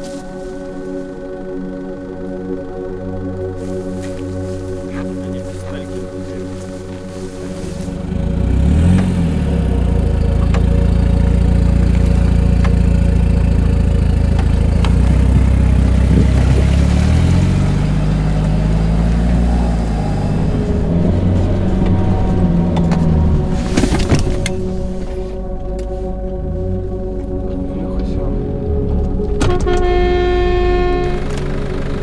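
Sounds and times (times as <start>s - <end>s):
suv engine revving under load: 2.0s - 32.0s.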